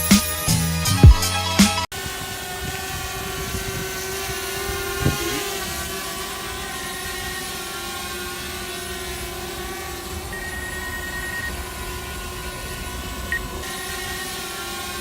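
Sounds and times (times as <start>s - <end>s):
drone propellers whirring: 0.5s - 15.0s.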